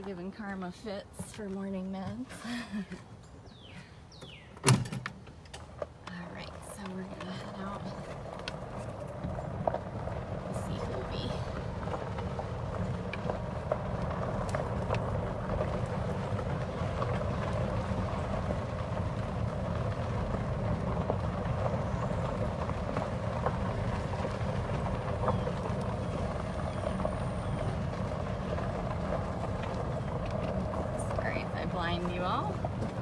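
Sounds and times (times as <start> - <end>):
small vehicle driving: 0.0 - 33.0.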